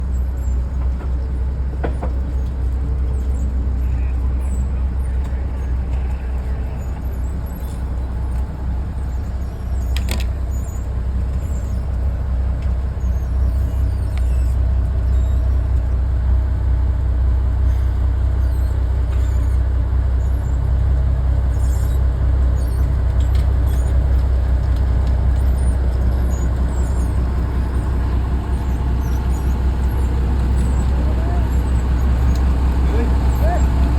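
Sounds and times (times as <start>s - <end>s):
train rumbling over tracks: 0.0s - 33.9s.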